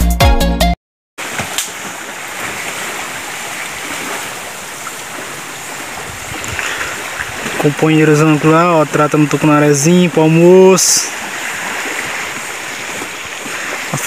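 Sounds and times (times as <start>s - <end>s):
river water washing on shore: 1.2s - 14.0s.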